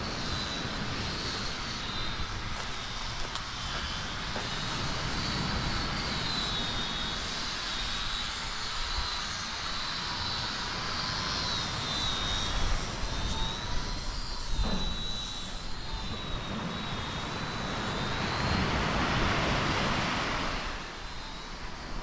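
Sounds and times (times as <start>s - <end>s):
thin high whine: 0.0s - 22.0s
wind buffeting microphone: 0.0s - 22.0s.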